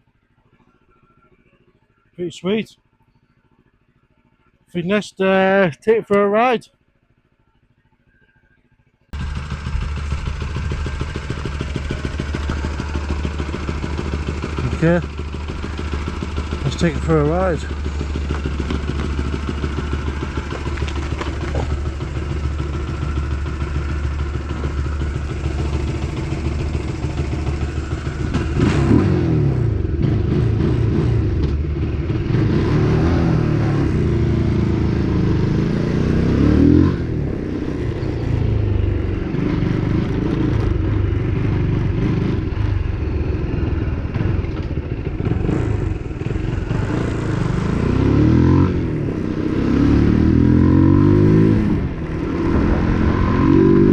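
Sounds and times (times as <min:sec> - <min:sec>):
motorcycle engine idling and revving: 0:00.0 - 0:53.9.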